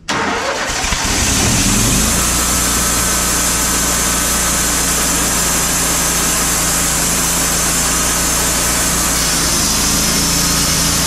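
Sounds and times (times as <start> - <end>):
sawmill engine starting and running: 0.0 - 11.0.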